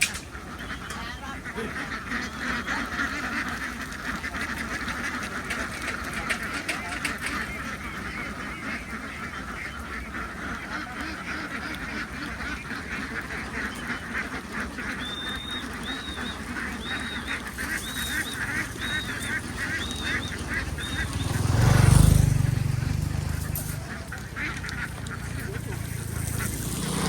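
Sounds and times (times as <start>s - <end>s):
ducks quacking: 0.0s - 27.0s.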